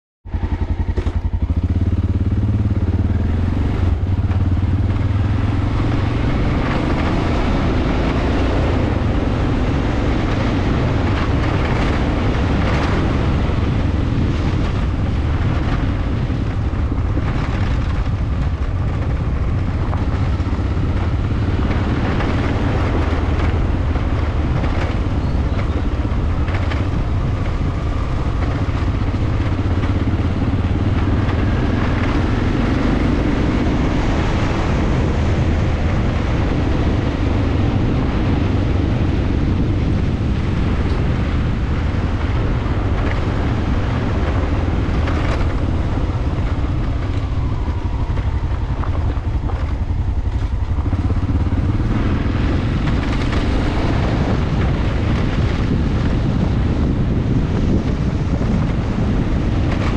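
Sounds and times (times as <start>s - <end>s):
motorcycle engine running: 0.2s - 59.9s.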